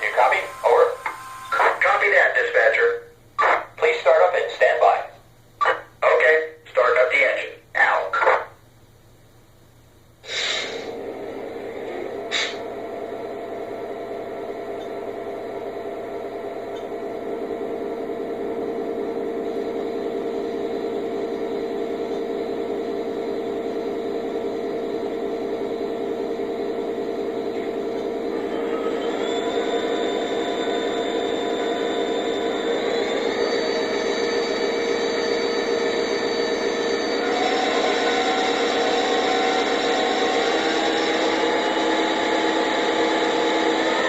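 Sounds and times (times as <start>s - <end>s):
model locomotive diesel engine sound: 0.0s - 8.6s, 9.5s - 44.0s.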